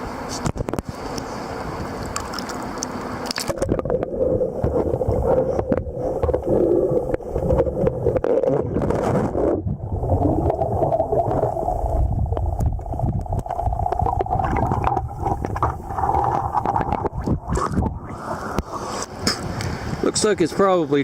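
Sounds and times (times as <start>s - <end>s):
muffled underwater river rush: 0.0s - 21.0s
underwater clicks and knocks: 2.0s - 9.8s, 10.4s - 19.7s.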